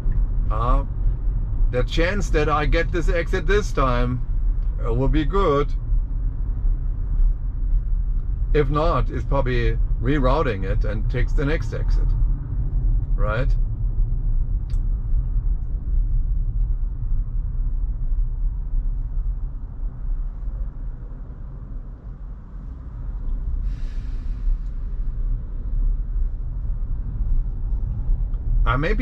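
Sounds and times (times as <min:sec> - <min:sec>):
tyre road rumble: 0:00.0 - 0:29.0.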